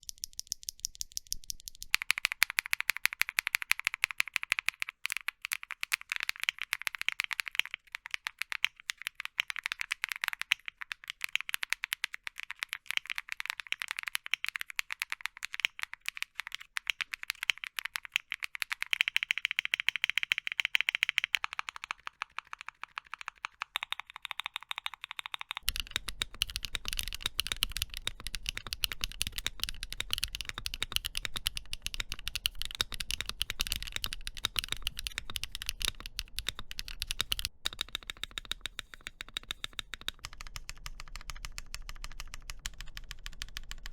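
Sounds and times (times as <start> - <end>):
mechanical keyboard typing: 0.0 - 43.9.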